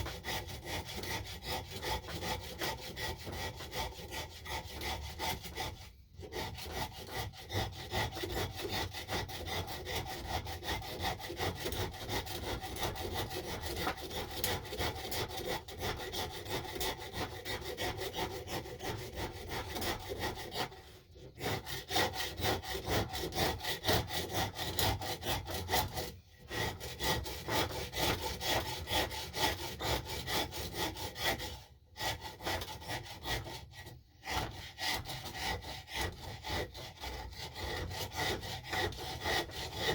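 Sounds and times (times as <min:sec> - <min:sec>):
tool rasping wood: 0:00.0 - 0:39.9.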